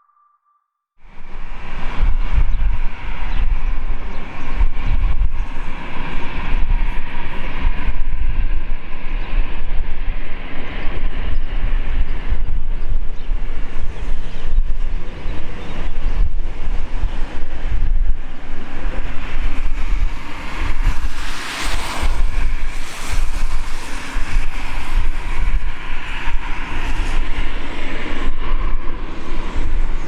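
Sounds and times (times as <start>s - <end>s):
jet engines whining and rumbling: 1.0s - 30.0s.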